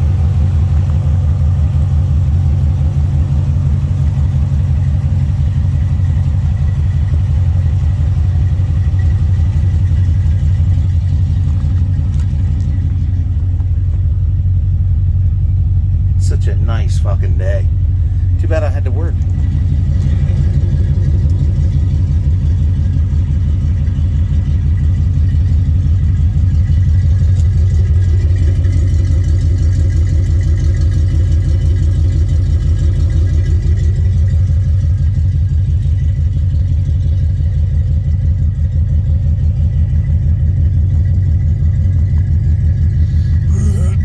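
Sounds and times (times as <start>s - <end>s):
pickup engine idling: 0.0s - 44.0s.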